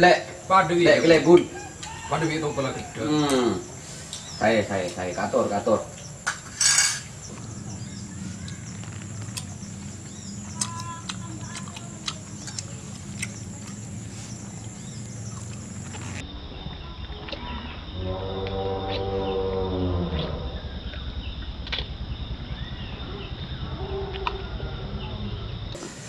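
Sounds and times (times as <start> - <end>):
high insect trill: 0.0 - 26.0.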